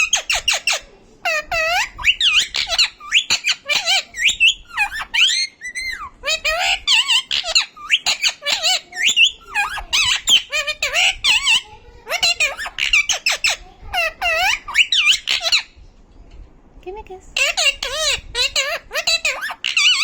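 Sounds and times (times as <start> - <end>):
parrot chattering: 0.0 - 15.7, 17.3 - 20.0.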